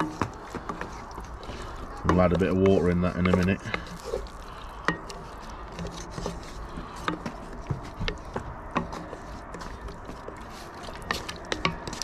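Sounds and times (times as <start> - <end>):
wooden spoon stirring in a pot: 0.0 - 12.0.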